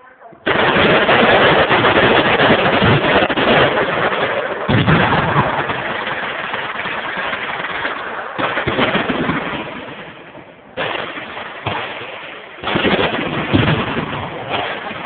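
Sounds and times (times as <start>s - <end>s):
loud gun blasts: 0.4s - 15.0s
machine guns firing: 0.4s - 15.0s.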